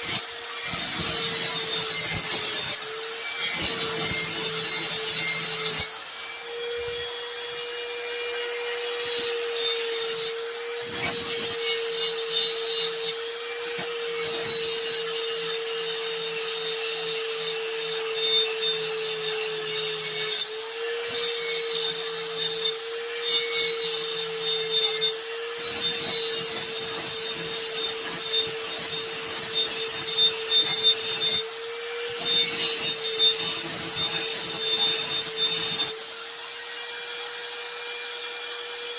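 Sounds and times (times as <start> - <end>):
grinding steel blade: 0.0 - 38.4
electric grinder whine: 0.0 - 38.9.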